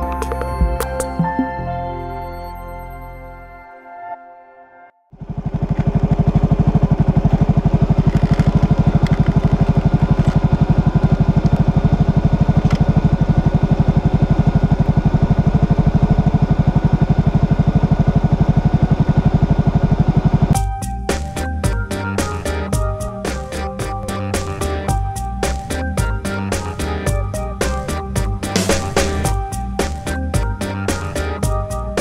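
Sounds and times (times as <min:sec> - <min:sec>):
scooter engine idling: 0:05.1 - 0:31.9.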